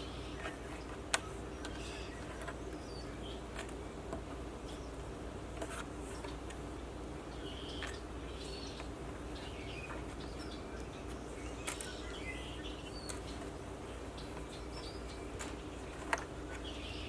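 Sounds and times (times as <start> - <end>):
low background hum: 0.0 - 17.0
small birds chirping: 0.0 - 17.0.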